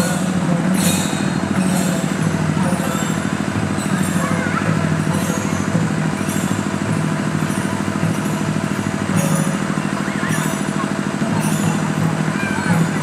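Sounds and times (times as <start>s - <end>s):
rhythmic hand drumming: 0.0s - 13.0s.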